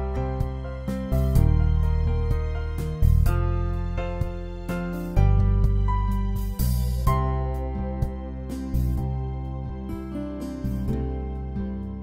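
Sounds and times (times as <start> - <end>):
deep bass line: 0.0 - 12.0
instrumental music with plucked notes: 0.0 - 12.0.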